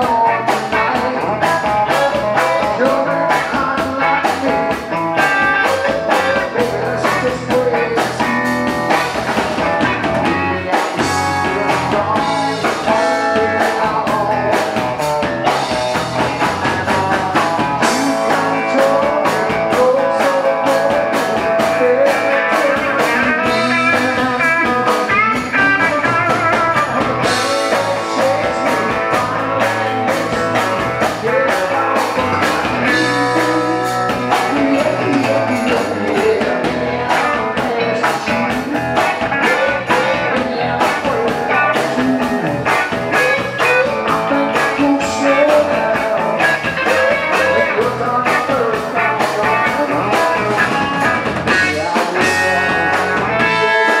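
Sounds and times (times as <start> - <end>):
bass guitar: 0.0 - 54.0
drums: 0.0 - 54.0
electric guitar: 0.0 - 54.0.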